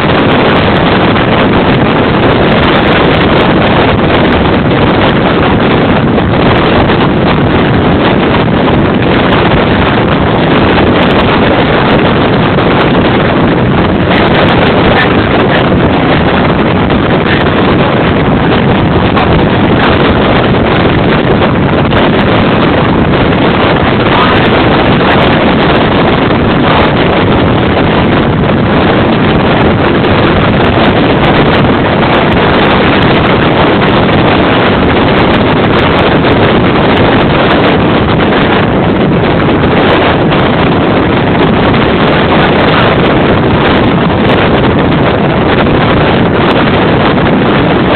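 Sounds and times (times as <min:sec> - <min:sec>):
gale wind buffeting microphone: 0:00.0 - 0:47.9.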